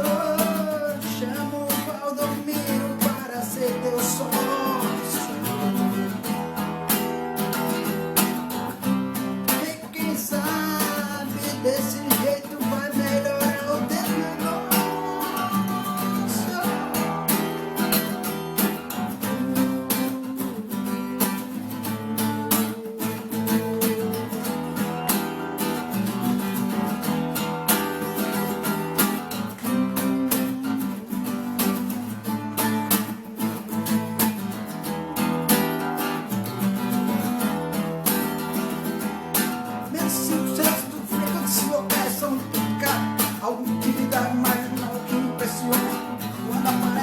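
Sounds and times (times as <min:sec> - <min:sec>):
strummed acoustic guitar: 0:00.0 - 0:47.0.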